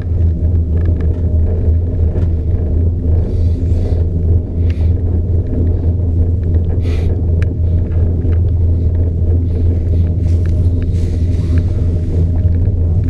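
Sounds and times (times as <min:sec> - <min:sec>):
gondola cabin rumble: 0:00.0 - 0:13.0
light clicks and rattles: 0:00.0 - 0:13.0.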